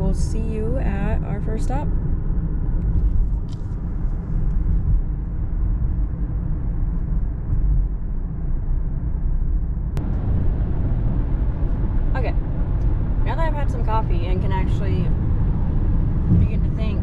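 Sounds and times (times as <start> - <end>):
car cabin road and engine noise: 0.0 - 17.0.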